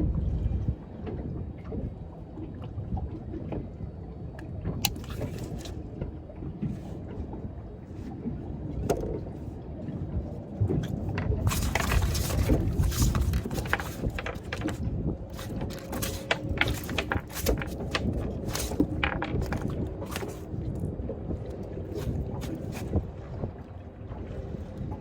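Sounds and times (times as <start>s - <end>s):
low rumble of water and wind: 0.0s - 25.0s.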